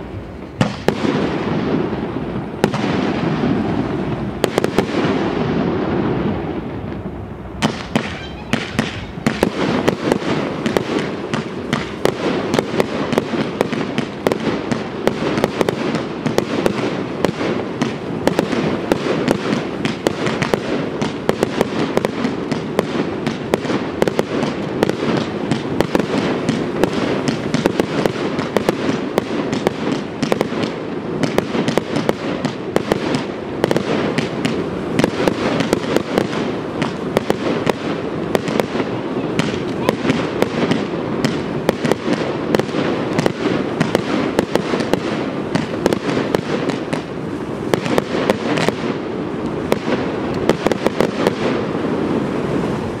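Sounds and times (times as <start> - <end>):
fireworks bursting: 0.0 - 53.0
sharp bangs and crackles: 0.0 - 53.0.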